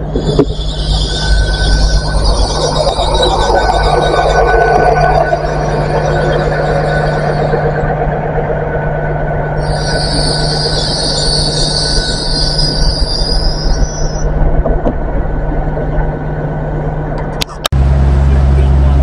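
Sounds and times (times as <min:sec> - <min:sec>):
high-pitched wheel squeal: 0:00.0 - 0:17.0
train rumbling slowly: 0:00.0 - 0:19.0.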